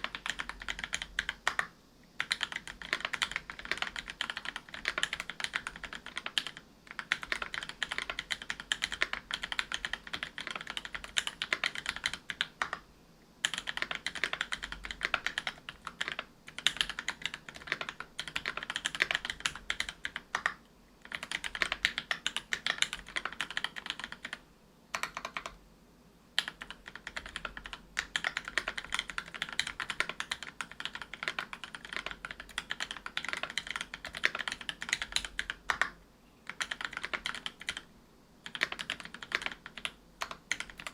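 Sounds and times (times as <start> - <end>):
fast typing on mechanical keyboard: 0.0 - 12.8, 13.4 - 25.6, 26.4 - 40.9.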